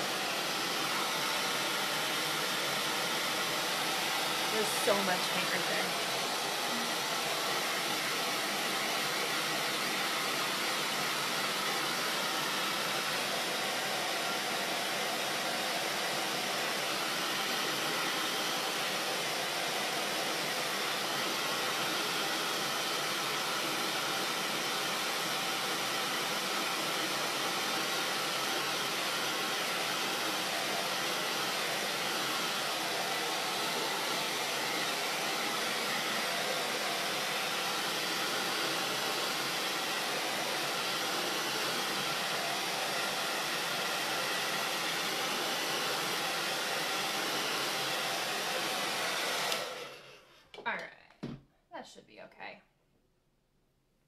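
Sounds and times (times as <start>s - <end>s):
blow dryer running: 0.0s - 50.7s.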